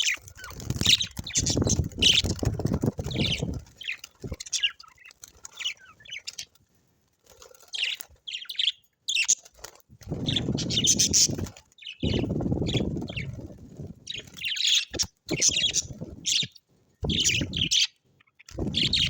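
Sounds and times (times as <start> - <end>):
birds chirping: 0.0 - 6.6, 7.5 - 19.0.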